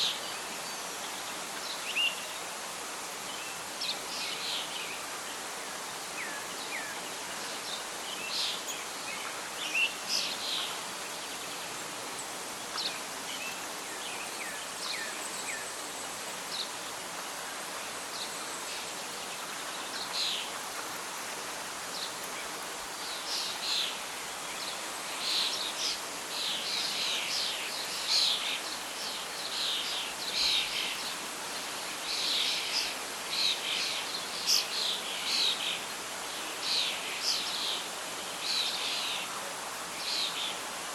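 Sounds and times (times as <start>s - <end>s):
wind rustling leaves: 0.0s - 40.9s.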